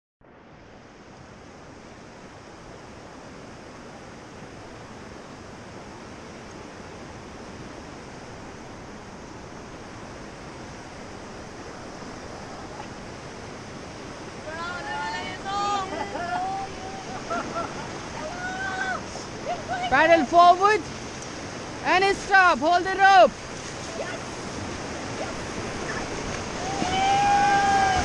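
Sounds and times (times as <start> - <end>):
river water rushing: 0.3 - 28.0.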